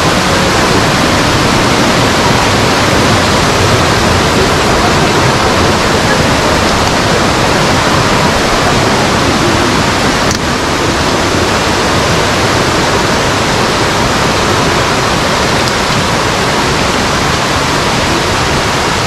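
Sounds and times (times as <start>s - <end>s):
falling water roaring: 0.0s - 19.0s.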